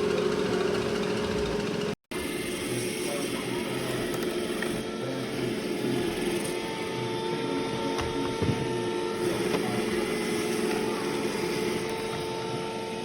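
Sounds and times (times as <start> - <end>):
robot vacuum running: 0.0 - 13.0.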